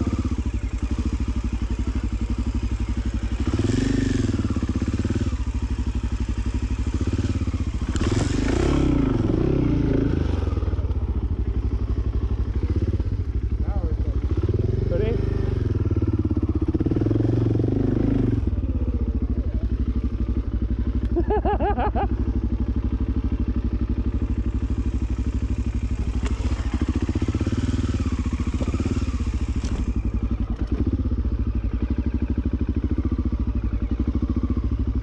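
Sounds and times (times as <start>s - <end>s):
motorcycle engine running at low revs: 0.0s - 35.0s.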